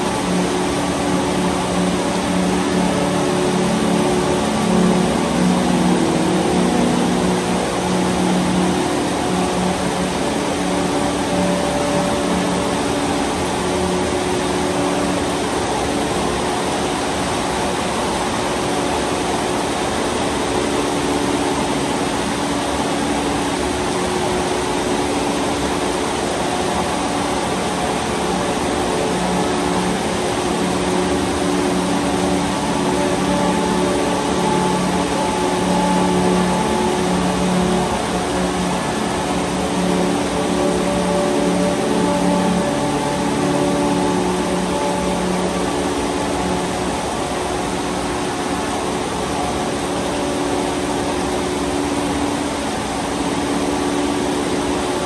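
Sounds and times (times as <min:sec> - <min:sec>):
low steady hum: 0:00.0 - 0:55.0
rain on trees and metal roof: 0:00.0 - 0:55.0.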